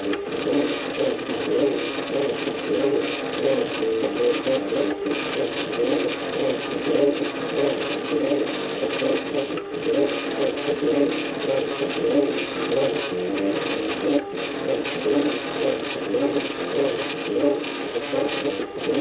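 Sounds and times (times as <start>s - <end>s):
stepper motors whirring: 0.0s - 19.0s.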